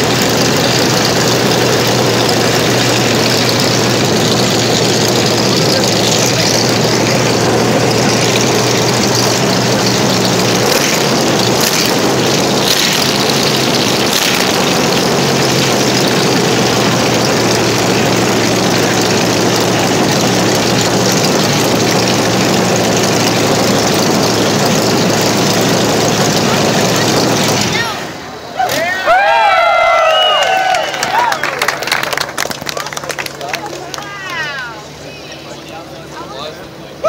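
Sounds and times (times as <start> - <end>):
radial engine running: 0.0 - 28.8, 30.0 - 37.0.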